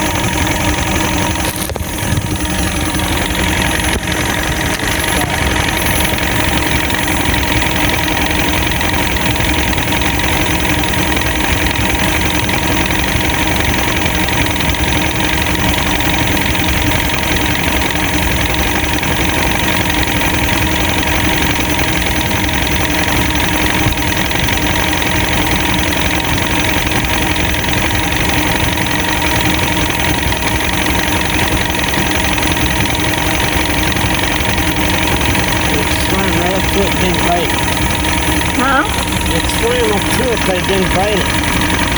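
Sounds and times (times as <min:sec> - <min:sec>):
boat motor idling: 0:00.0 - 0:41.9.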